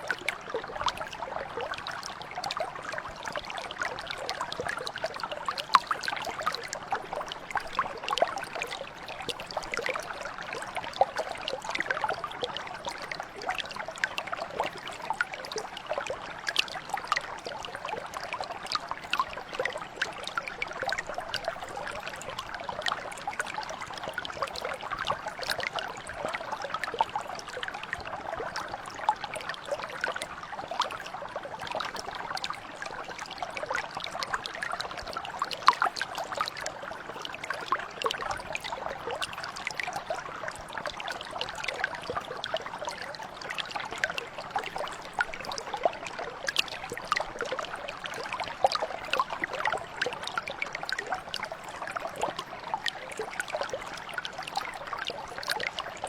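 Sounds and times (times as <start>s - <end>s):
brook water flowing over stones: 0.0s - 56.0s.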